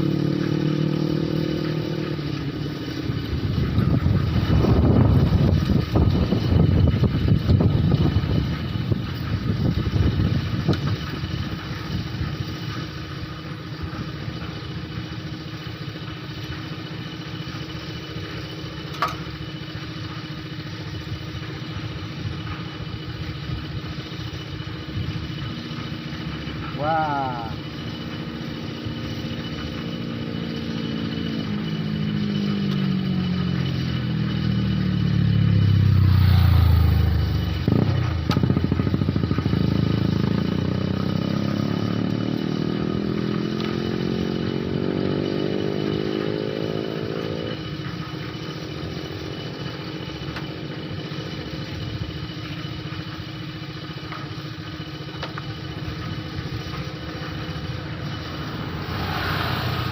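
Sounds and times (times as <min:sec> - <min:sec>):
small motorcycle engine running: 0:00.0 - 0:59.9.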